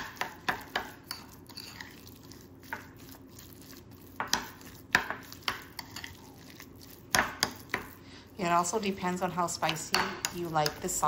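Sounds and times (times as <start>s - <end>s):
spoon stirring thick sauce: 0.0s - 11.0s.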